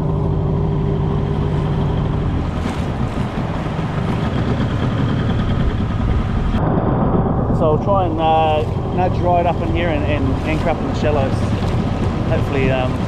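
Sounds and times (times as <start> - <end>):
outboard motor running: 0.0 - 6.6, 7.8 - 13.0
water rushing along hull: 0.0 - 6.6, 7.6 - 13.0.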